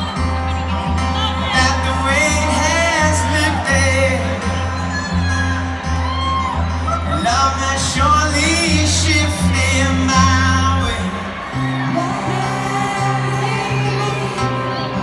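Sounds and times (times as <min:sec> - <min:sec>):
live rock band: 0:00.0 - 0:15.0
pulsing bass line: 0:00.0 - 0:15.0
lead vocal singing: 0:01.2 - 0:05.8, 0:06.8 - 0:15.0.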